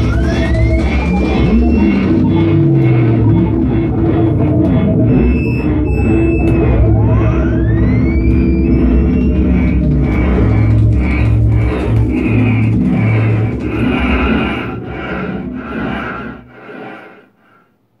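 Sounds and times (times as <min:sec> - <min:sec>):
held synthesizer bass notes: 0:00.0 - 0:16.6
pulsing electronic texture: 0:00.0 - 0:17.3.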